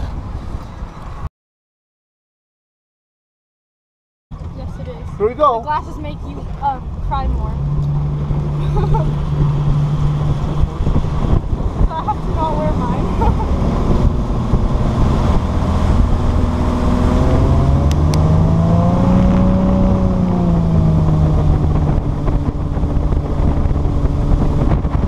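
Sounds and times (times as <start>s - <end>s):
motorboat engine running: 4.4s - 25.0s
wind buffeting microphone: 4.6s - 25.0s.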